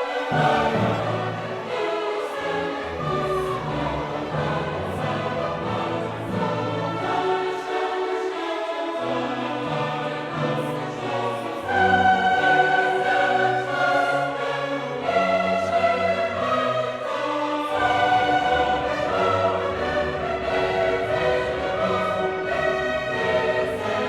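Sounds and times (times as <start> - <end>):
choir singing held notes: 0.0 - 24.0
orchestra playing: 0.0 - 24.0.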